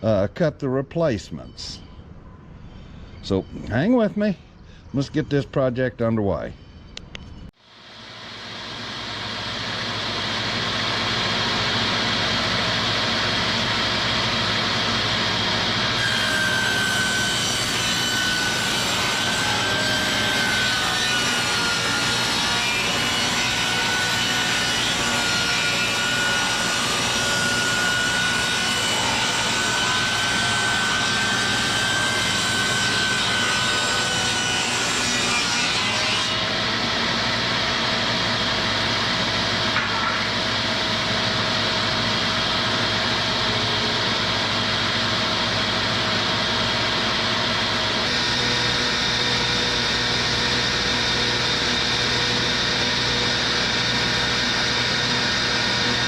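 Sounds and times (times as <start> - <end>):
power saw running: 8.0 - 35.4, 36.3 - 56.0.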